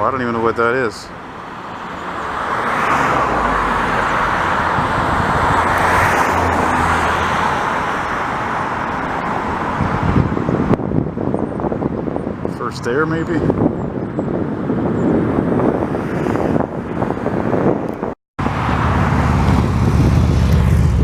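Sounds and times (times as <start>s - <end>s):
wind gusts on microphone: 0.0s - 21.0s.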